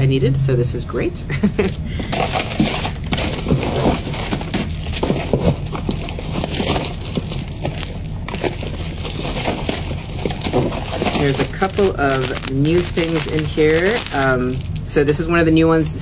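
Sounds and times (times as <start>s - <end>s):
plastic and cardboard rustling: 1.6s - 15.0s.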